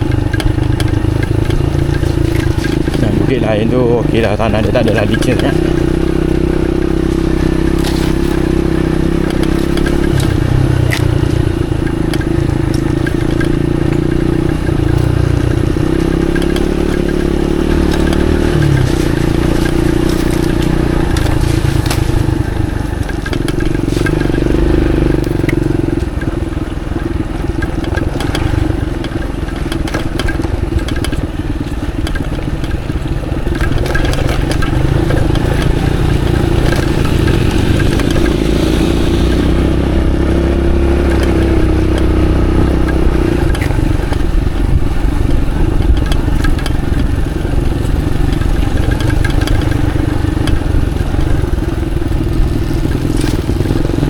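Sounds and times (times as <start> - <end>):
clicks and rattles: 0.0 - 5.9, 9.1 - 38.6, 42.8 - 54.0
motorcycle engine running: 0.0 - 54.0.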